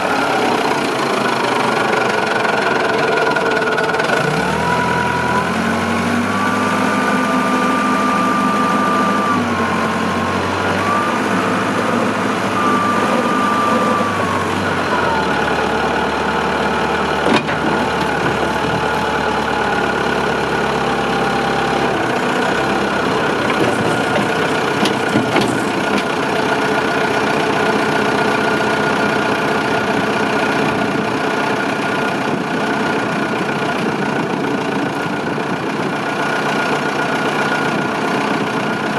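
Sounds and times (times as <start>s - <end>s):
diesel engine revving and idling: 0.0s - 38.9s.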